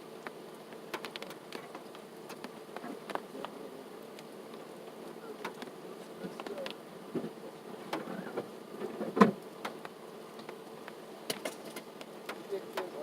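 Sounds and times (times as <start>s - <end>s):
steady buzzing hum: 0.0s - 13.0s.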